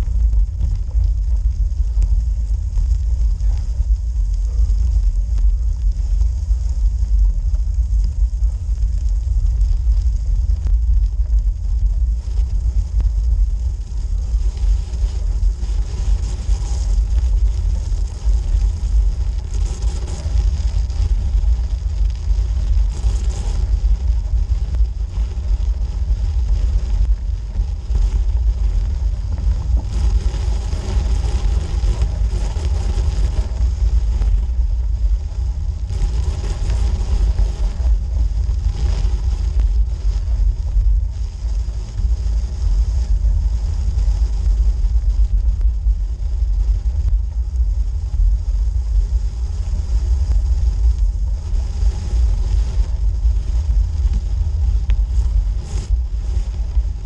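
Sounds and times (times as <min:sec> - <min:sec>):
bike rolling over snow: 0:00.0 - 0:45.7.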